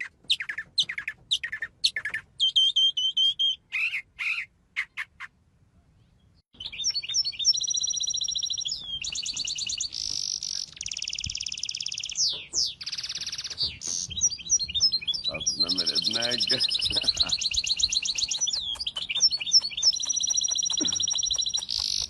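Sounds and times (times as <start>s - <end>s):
small birds chirping and trilling: 0.0s - 22.0s.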